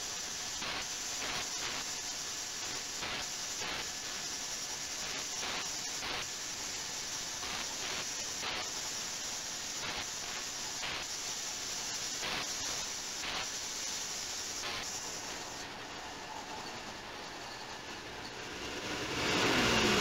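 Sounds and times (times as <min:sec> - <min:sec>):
ultrasonic cleaner hiss: 0:00.0 - 0:20.0.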